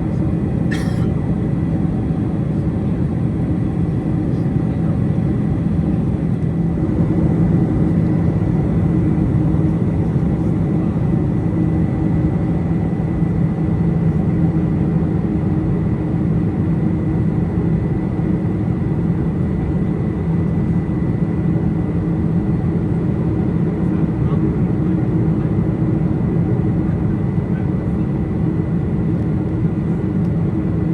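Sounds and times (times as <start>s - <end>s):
airplane cabin engine drone: 0.0s - 30.9s.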